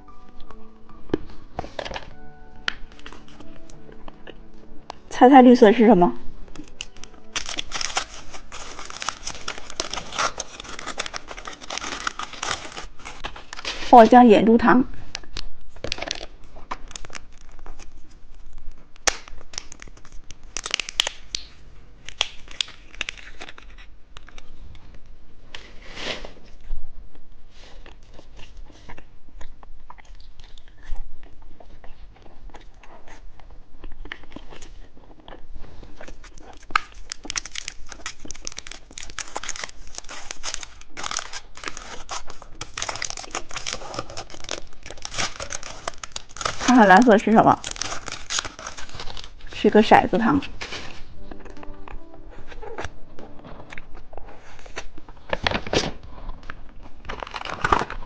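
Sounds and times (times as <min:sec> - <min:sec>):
plastic wrappers crinkling: 0:00.0 - 0:26.7, 0:27.7 - 0:58.0.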